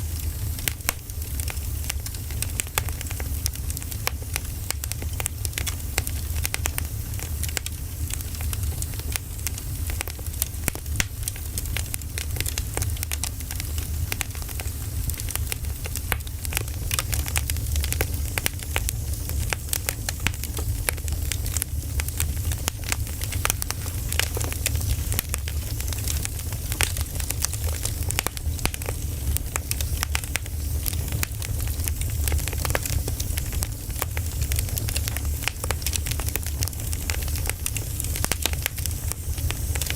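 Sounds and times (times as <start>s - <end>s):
fire low rumble: 0.0s - 39.9s
firewood crackling and popping: 0.0s - 39.9s.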